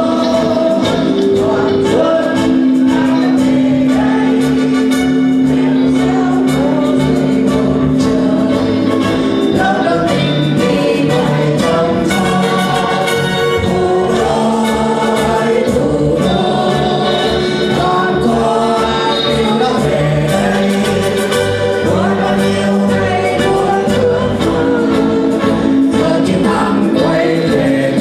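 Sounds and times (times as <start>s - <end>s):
mixed choir singing: 0.0s - 28.0s.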